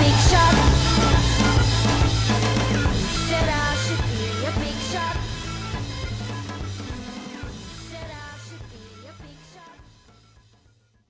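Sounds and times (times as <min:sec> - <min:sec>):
rock music with drum kit: 0:00.0 - 0:10.5.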